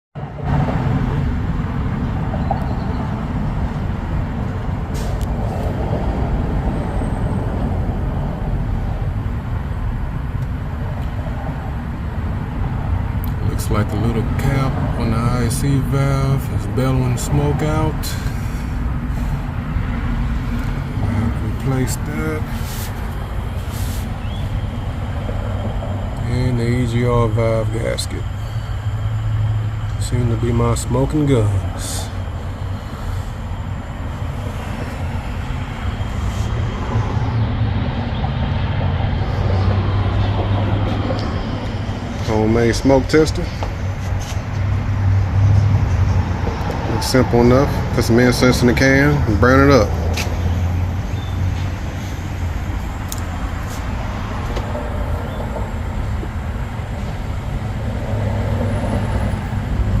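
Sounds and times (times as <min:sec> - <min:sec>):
low mechanical hum: 0:00.2 - 1:00.0
rushing noise: 0:00.2 - 1:00.0.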